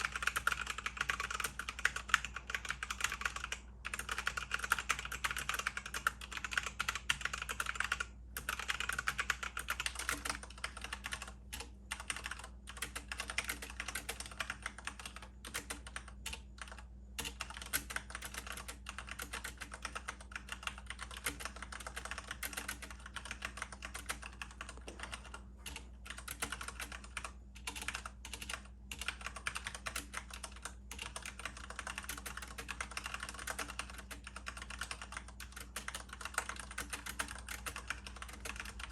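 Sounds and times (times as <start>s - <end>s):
fast typing on keyboard: 0.0s - 38.9s.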